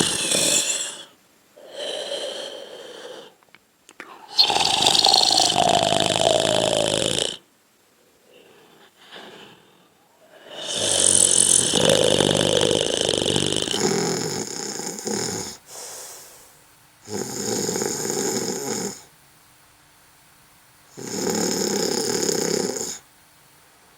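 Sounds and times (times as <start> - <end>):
person snoring: 0.0 - 3.4, 4.0 - 7.4, 8.3 - 19.1, 20.9 - 23.0.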